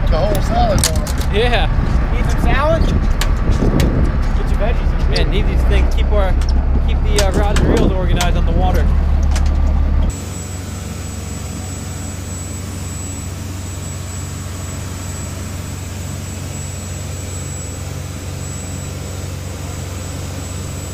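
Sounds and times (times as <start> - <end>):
boat engines droning: 0.0 - 20.9
high whine: 0.0 - 20.9.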